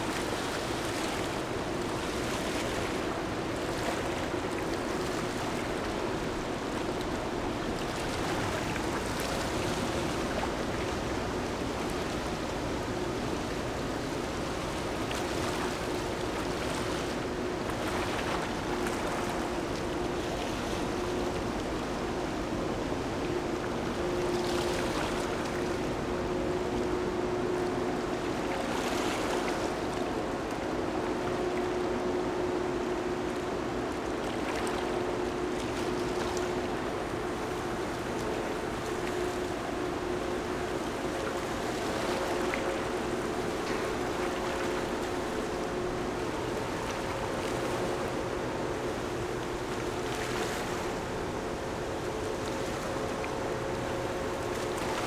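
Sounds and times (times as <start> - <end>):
river water washing along bank: 0.0 - 55.0
ship machinery hum: 0.0 - 55.0.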